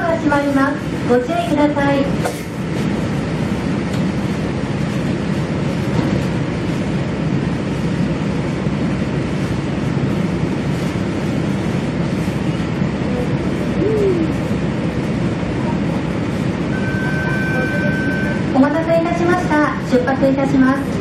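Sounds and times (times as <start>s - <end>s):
train rumbling from inside coach: 0.0s - 21.0s.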